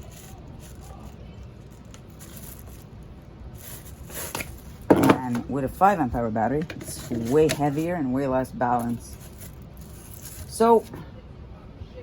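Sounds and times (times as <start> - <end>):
soft rustling and scraping: 0.0 - 11.1.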